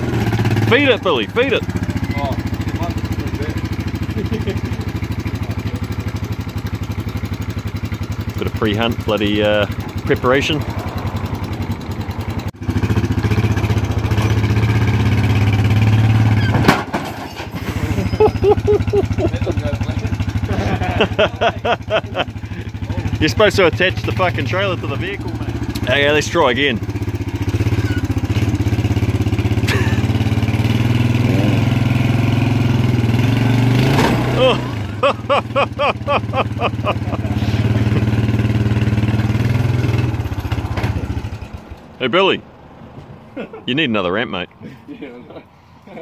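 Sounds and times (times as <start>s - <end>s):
quad bike engine running: 0.0s - 16.7s, 17.6s - 42.2s.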